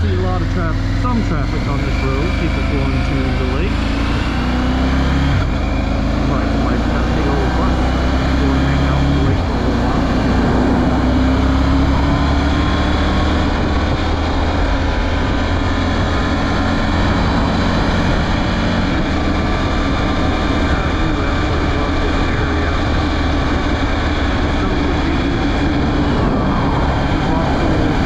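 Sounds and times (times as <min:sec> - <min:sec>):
motorcycle engine droning: 0:00.0 - 0:28.0.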